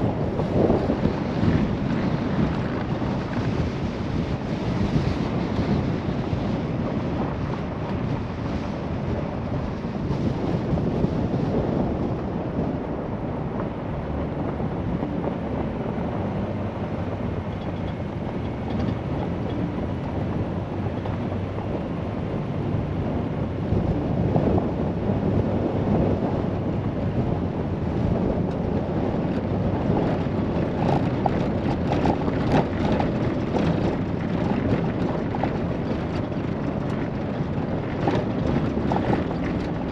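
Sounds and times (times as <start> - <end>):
gravel crackling: 0.0 - 39.9
rattle over washboard road: 0.0 - 39.9
tyre and road rumble: 0.0 - 39.9
wind noise on microphone: 0.0 - 39.9.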